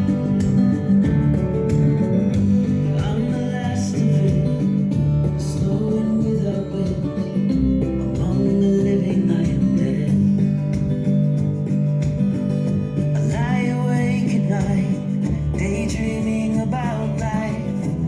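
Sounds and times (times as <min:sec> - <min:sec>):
guitar-led song over speakers: 0:00.0 - 0:18.0.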